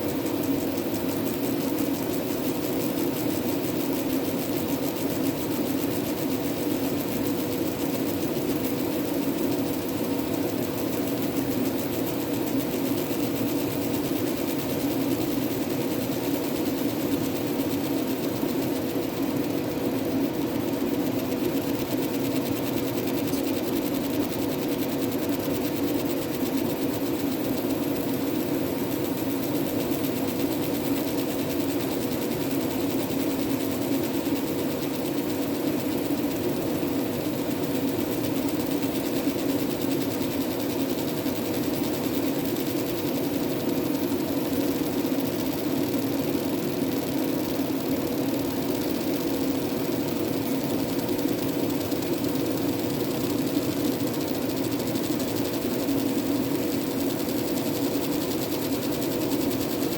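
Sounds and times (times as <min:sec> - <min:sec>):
laser engraver buzzing hum: 0:00.0 - 0:59.9.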